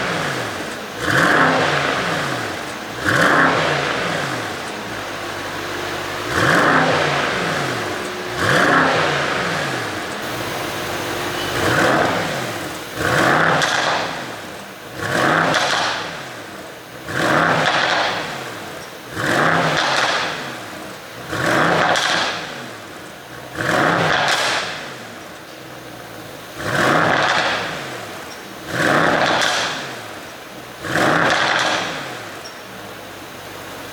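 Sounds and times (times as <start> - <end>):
car engine revving: 0.0 - 33.9
exhaust popping and crackling: 0.0 - 33.9.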